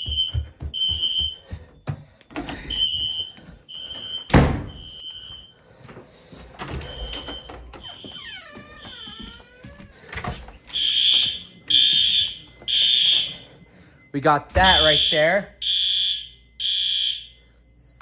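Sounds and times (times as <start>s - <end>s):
fire alarm beeping: 0.0s - 18.0s.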